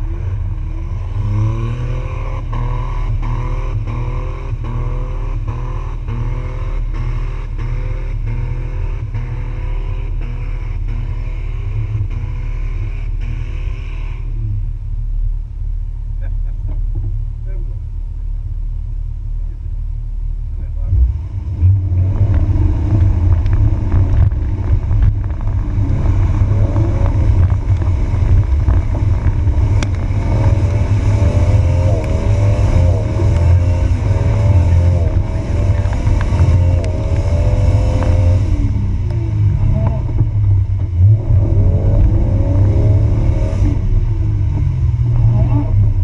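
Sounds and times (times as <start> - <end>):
engine revving under load: 0.0 - 14.7, 20.6 - 46.0.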